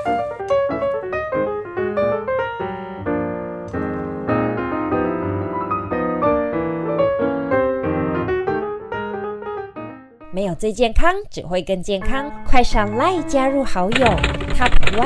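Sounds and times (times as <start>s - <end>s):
light piano music: 0.0s - 10.6s, 11.8s - 15.0s.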